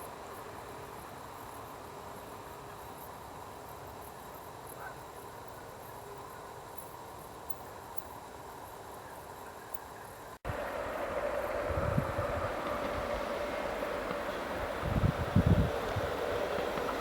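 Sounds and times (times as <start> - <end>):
background hiss: 0.0 - 17.0
faint insect chirping: 0.0 - 17.0.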